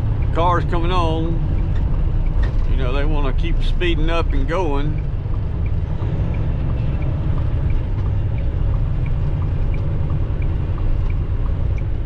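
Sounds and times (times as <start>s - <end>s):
truck engine rumble: 0.0s - 12.0s
faint ticking: 0.1s - 12.0s.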